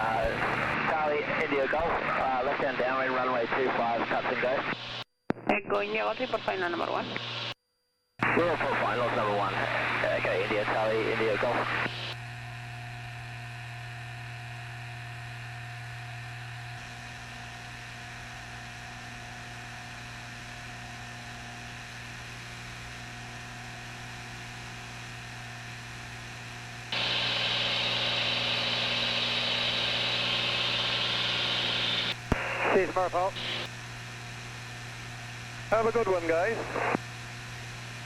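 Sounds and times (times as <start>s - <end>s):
aircraft cockpit drone and hum: 0.0s - 7.6s, 8.2s - 38.0s.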